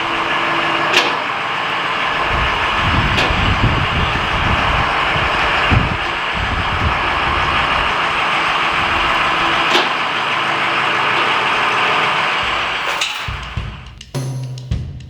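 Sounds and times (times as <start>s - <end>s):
engine-driven machinery running: 0.0s - 14.0s.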